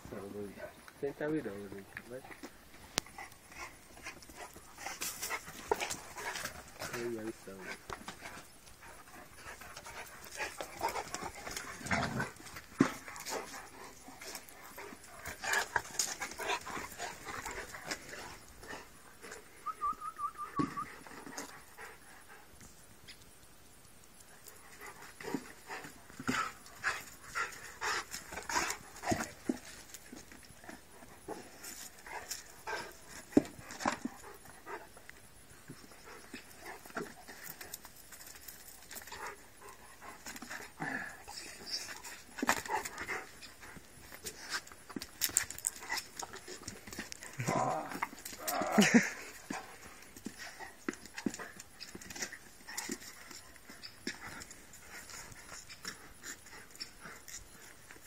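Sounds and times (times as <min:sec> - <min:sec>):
dog panting: 0:02.2 - 0:19.5, 0:20.9 - 0:22.6, 0:24.4 - 0:47.4, 0:48.8 - 0:58.0.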